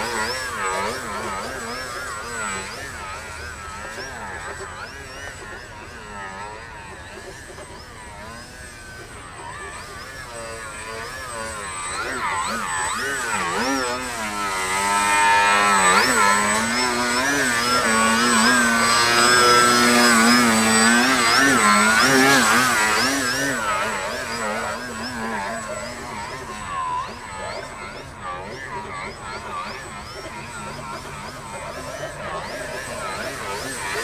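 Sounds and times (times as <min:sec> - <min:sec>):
model airplane motor and propeller: 0:00.0 - 0:34.0.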